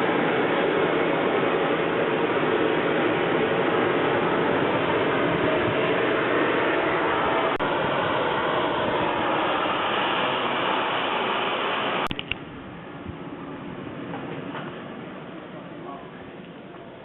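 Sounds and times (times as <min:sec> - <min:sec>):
model jet turbine engine: 0:00.0 - 0:17.0.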